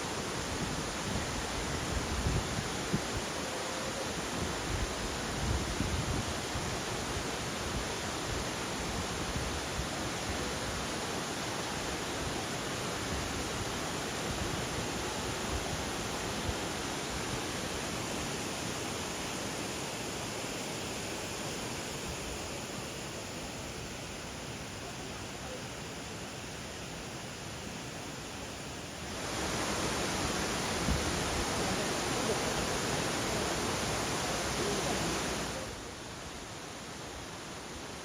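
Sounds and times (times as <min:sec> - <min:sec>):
flowing water rushing: 0:00.0 - 0:38.0.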